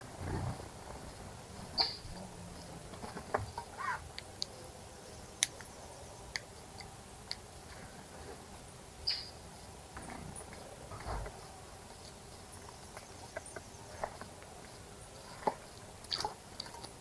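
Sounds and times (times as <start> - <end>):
birds chirping: 0.0 - 6.4, 8.6 - 17.0
faint steady hiss: 0.0 - 17.0.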